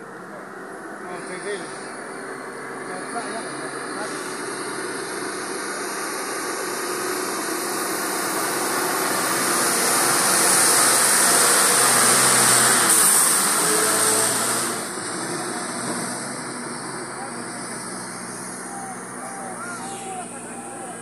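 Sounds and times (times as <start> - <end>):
heavy truck engine passing: 0.0 - 21.0.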